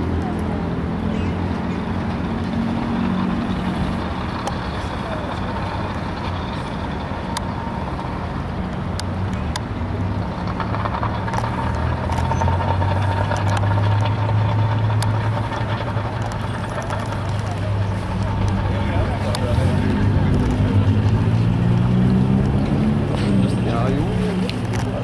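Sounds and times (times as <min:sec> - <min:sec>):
low engine hum: 0:00.0 - 0:25.0
vehicle engines running: 0:00.0 - 0:25.0.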